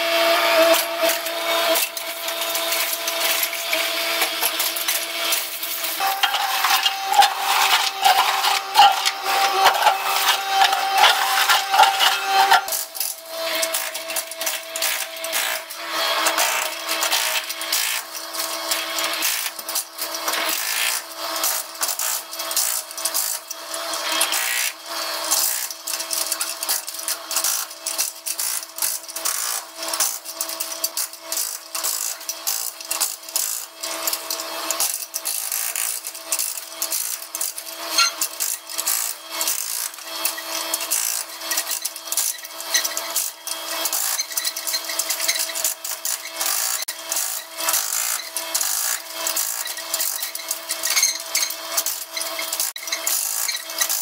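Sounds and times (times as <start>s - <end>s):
hydraulic breaker hammering concrete: 0.0s - 54.0s.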